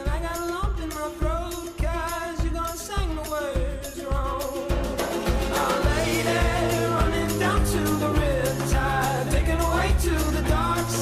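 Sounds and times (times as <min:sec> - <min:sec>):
song with singing over a beat: 0:00.0 - 0:11.0.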